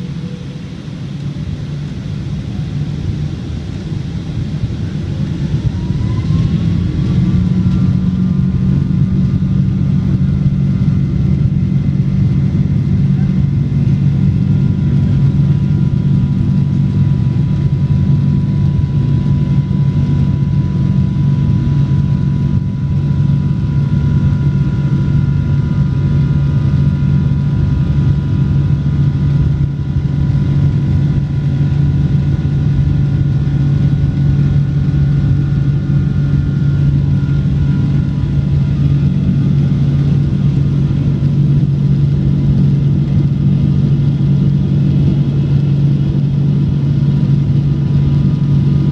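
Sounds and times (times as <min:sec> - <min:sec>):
faint steady whining tones: 0:00.0 - 0:48.9
jet engines droning: 0:00.0 - 0:48.9.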